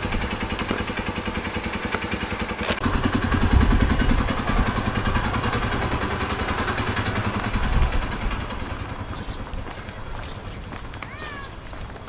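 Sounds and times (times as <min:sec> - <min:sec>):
vehicle engine pulsing: 0:00.0 - 0:12.0.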